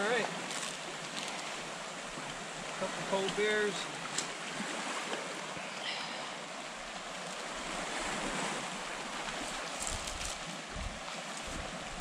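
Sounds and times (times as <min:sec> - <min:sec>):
waves washing onto cobble shore: 0:00.0 - 0:12.0
wind: 0:00.0 - 0:12.0.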